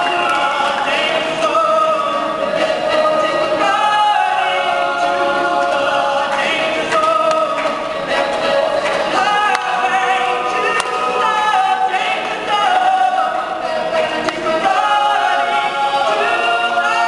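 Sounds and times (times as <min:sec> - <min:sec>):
male a cappella group singing: 0:00.0 - 0:17.0.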